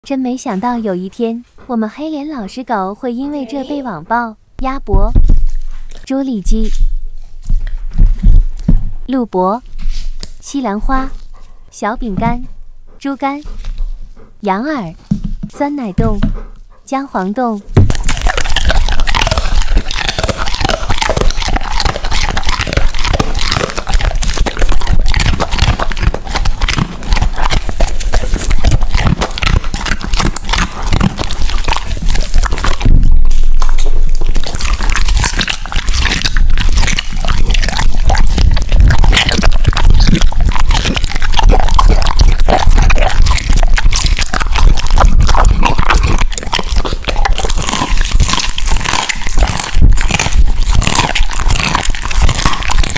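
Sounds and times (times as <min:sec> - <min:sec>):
dog chewing and crunching: 0:04.8 - 0:52.9.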